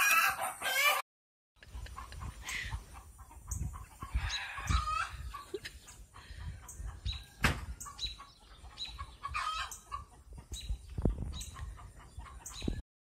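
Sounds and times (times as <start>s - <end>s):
chickens clucking: 0.0s - 1.0s, 1.6s - 12.8s.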